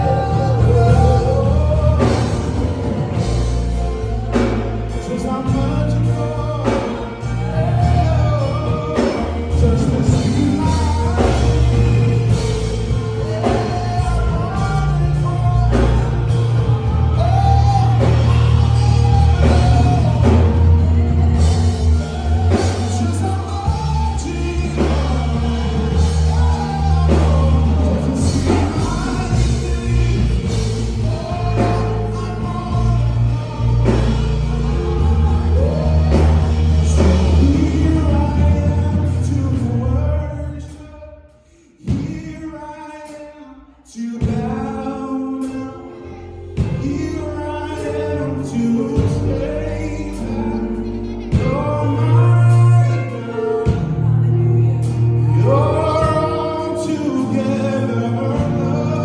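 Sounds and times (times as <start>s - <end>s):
rock band playing: 0.0s - 40.8s, 44.2s - 59.0s
person singing: 0.0s - 59.0s.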